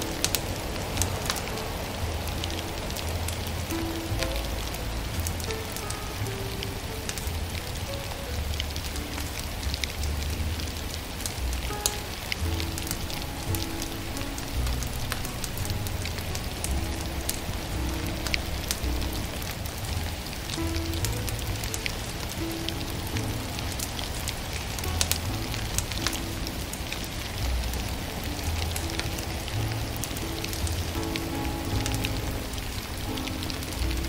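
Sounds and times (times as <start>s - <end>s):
soft slow music: 0.0s - 34.0s
wood fire crackling: 0.0s - 34.0s.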